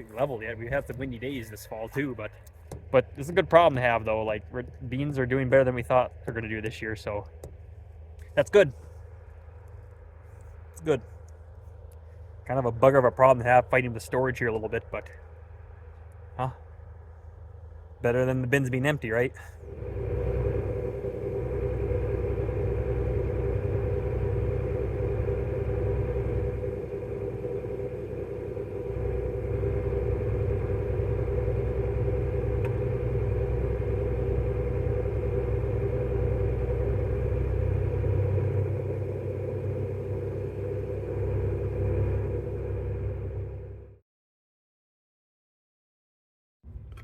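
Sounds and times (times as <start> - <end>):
farm vehicle engine droning: 0.0 - 44.0.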